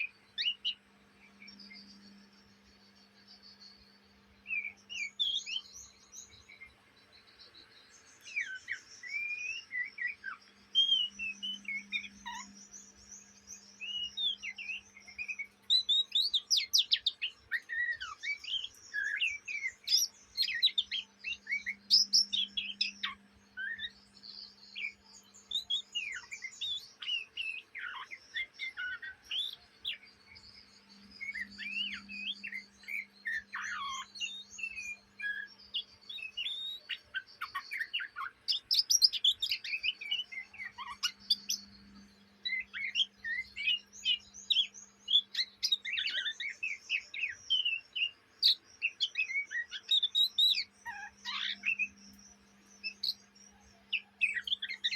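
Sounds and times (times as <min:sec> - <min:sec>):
bird twittering and whistling: 0:00.0 - 0:06.8, 0:07.4 - 0:54.9.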